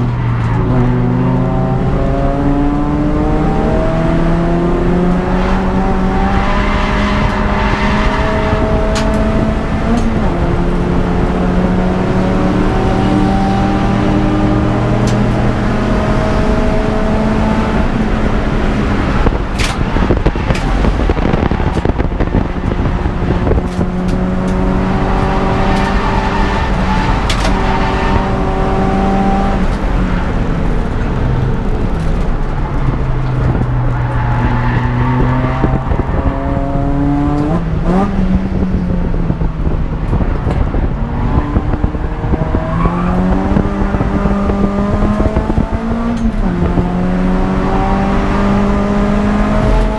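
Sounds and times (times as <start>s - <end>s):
car engine revving: 0.0s - 49.9s
road and wind noise: 0.0s - 49.9s.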